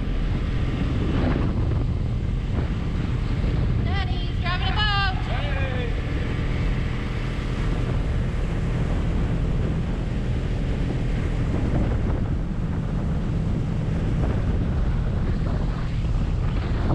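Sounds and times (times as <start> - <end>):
speedboat running: 0.0 - 16.9
wind on microphone: 0.0 - 16.9.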